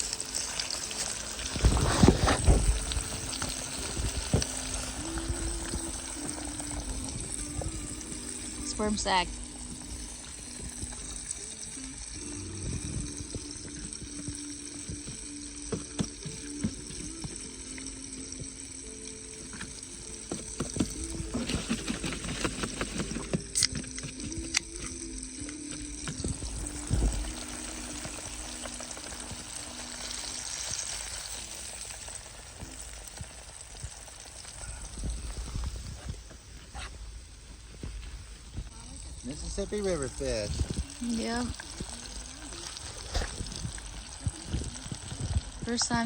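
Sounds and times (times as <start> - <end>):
food frying in hot oil: 0.0 - 46.0.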